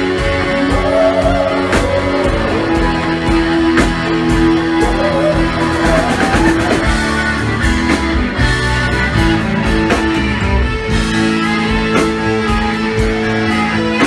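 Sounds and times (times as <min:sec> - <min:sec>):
electric guitar bending lead notes: 0:00.0 - 0:14.0
live rock band playing: 0:00.0 - 0:14.0.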